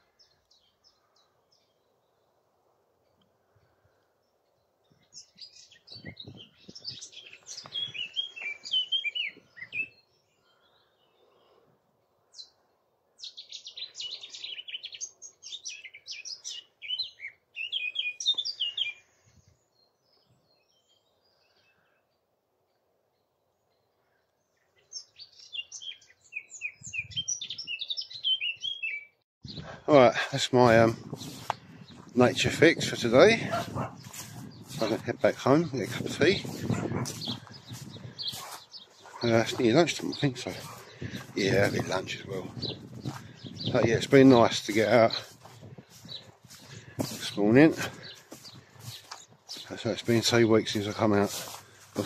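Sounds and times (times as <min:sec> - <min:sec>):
songbird chirps and trills: 0:00.0 - 0:52.0.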